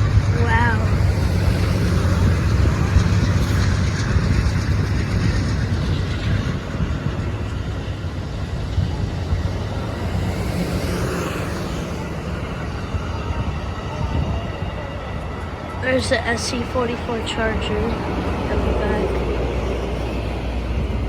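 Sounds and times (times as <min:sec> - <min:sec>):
passenger train rolling past: 0:00.0 - 0:21.0.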